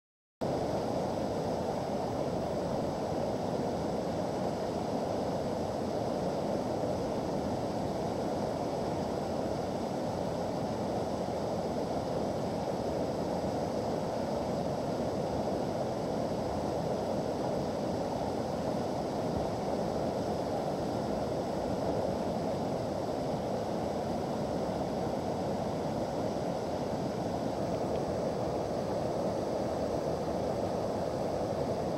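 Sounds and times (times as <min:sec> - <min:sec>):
whitewater rushing over rocks: 0:00.5 - 0:31.9.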